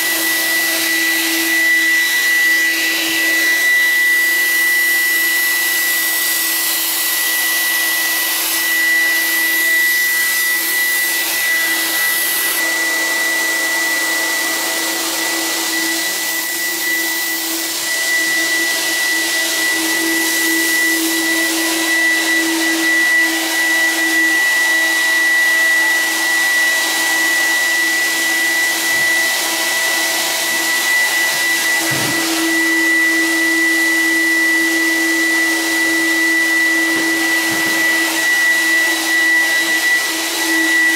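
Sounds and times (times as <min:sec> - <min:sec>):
fogger blower hum: 0:00.0 - 0:40.9
fogger high whistle: 0:00.0 - 0:40.9.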